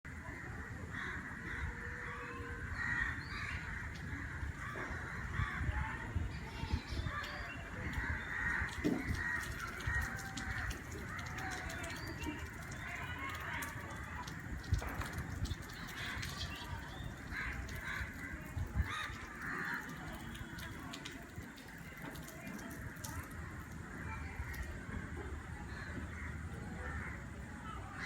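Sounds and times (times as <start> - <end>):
chorus of birds chirping: 0.1 - 28.0.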